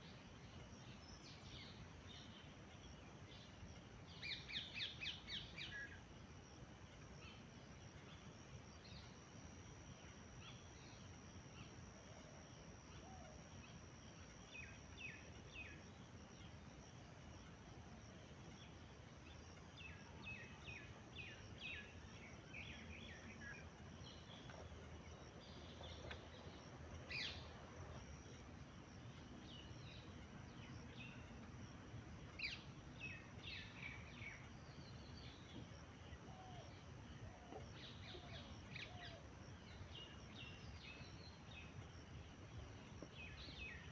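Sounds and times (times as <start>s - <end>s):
birds chirping faintly: 0.0s - 43.9s
low background noise: 0.0s - 43.9s.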